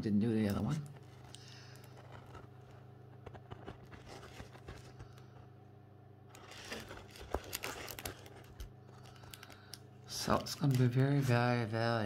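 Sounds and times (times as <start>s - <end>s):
steady low hum: 0.0s - 12.0s
plastic cover rustling: 0.6s - 5.5s, 6.3s - 11.8s.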